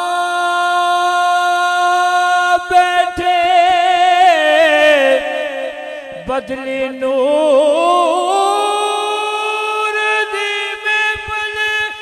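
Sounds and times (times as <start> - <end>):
man singing solo: 0.0 - 12.0.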